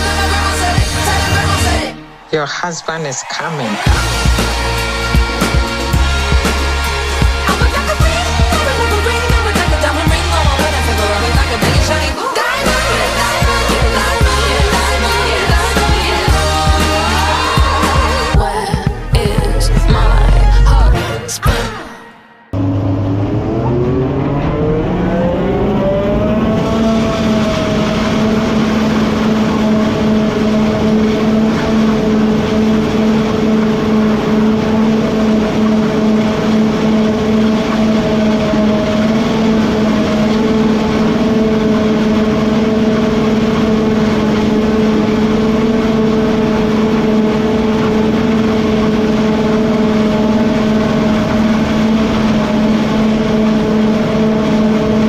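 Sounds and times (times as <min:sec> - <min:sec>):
farm machine engine revving: 0:00.0 - 0:21.6, 0:22.6 - 0:55.0.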